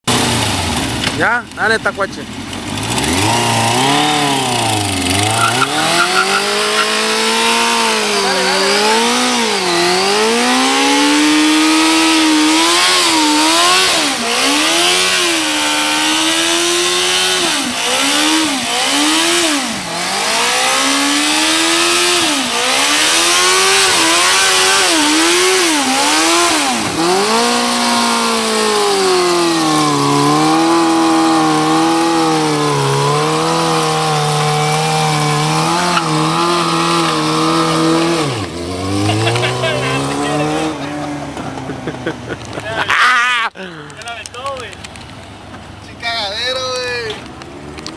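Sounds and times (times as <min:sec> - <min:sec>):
motorcycle engine revving: 0:00.0 - 0:43.0, 0:47.0 - 0:47.9.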